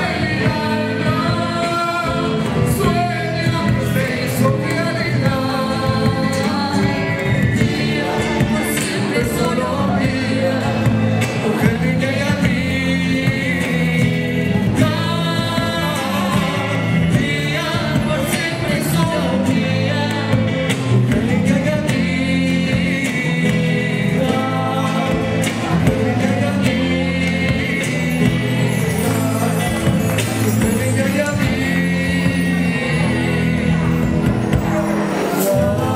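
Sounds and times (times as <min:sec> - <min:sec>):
bass drum beats: 0:00.0 - 0:35.9
bass guitar: 0:00.0 - 0:35.9
electric guitar: 0:00.0 - 0:35.9
man singing: 0:00.0 - 0:35.9.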